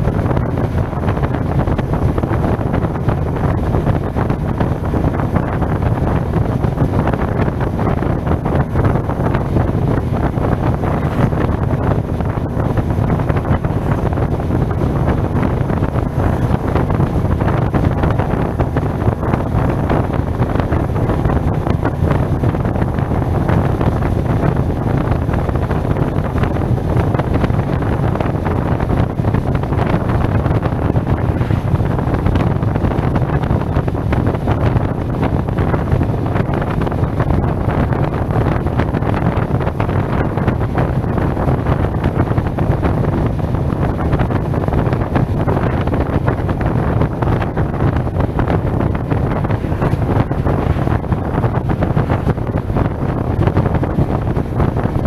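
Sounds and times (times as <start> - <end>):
road noise: 0.0 - 55.0
wind rumble on microphone: 0.0 - 55.0.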